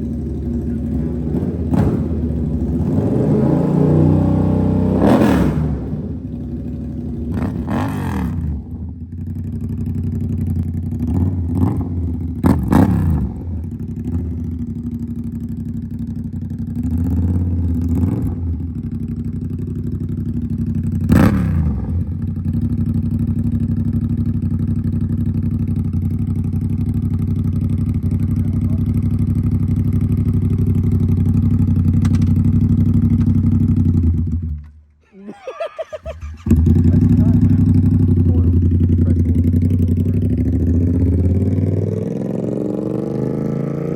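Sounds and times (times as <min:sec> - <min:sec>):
motorcycle engine idling: 0:00.0 - 0:03.4, 0:05.7 - 0:34.9, 0:35.8 - 0:41.8.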